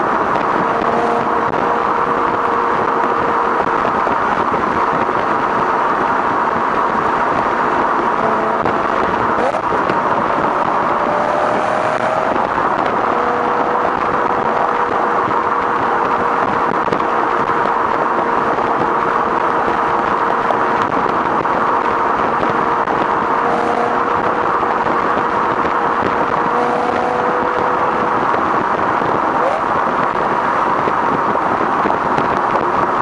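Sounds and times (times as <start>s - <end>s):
car exhaust cruising: 0.0s - 33.0s
road noise: 0.0s - 33.0s
wind noise: 0.0s - 33.0s.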